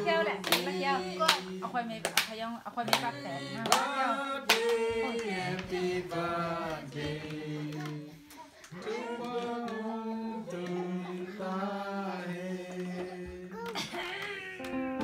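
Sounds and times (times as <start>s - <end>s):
group singing held notes: 0.0s - 2.1s, 2.8s - 13.8s.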